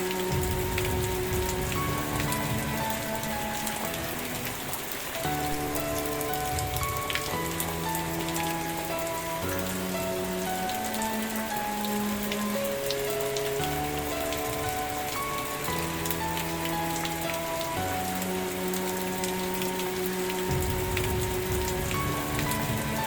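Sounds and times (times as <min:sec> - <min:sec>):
soft music of held chords: 0:00.0 - 0:23.0
steady rain falling: 0:00.0 - 0:23.0.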